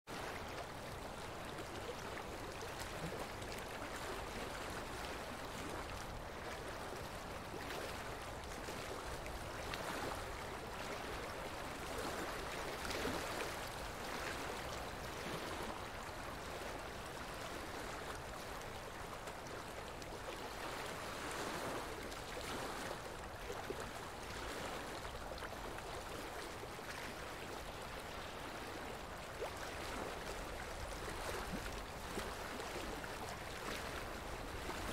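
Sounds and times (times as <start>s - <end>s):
running water rushing: 0.1s - 34.9s.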